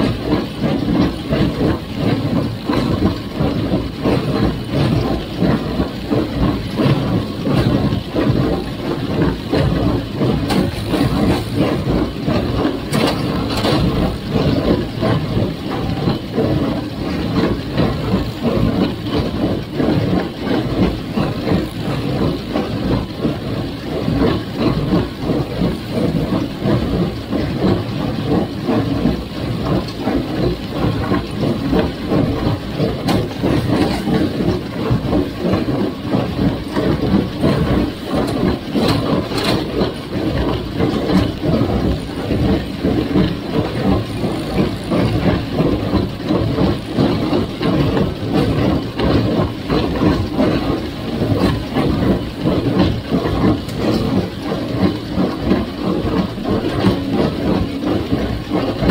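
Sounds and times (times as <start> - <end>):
rhythmic baler clatter: 0.0 - 58.9
tractor engine under load: 0.0 - 58.9.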